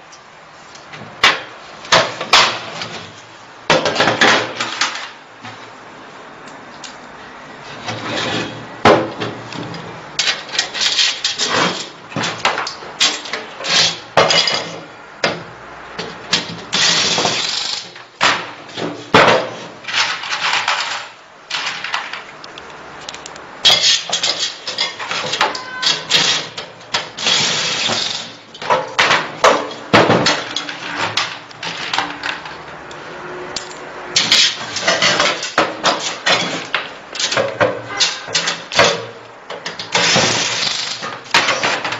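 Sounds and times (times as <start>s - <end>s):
hard parts clattering and scraping: 1.0s - 5.7s, 7.6s - 41.9s.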